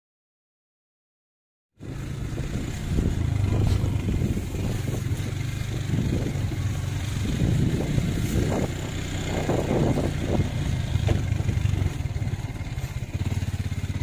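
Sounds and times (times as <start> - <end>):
vehicle engine running: 1.8 - 14.0.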